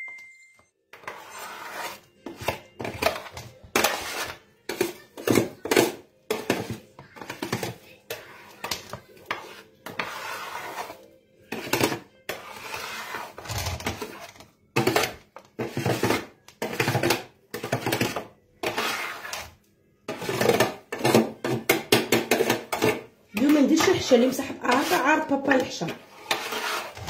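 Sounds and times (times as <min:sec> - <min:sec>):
utensils scraping and clattering cookware: 0:00.9 - 0:27.0.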